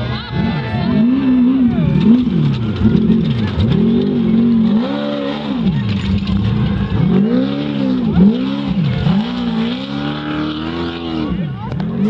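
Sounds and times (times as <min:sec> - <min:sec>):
engine revving hard: 0:00.2 - 0:12.0.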